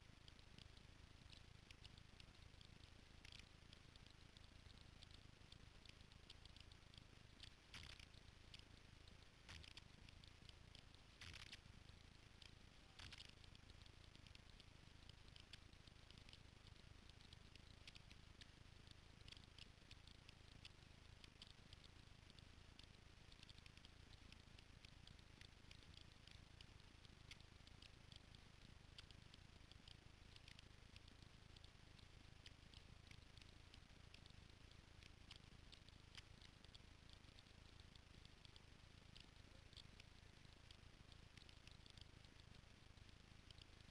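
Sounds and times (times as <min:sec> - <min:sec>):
tiny ticks: 0:00.0 - 0:43.9.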